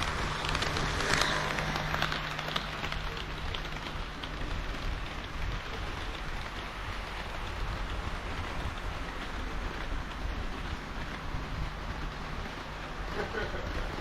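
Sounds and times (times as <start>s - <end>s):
model train wheels rattling on rails: 0.0s - 14.0s.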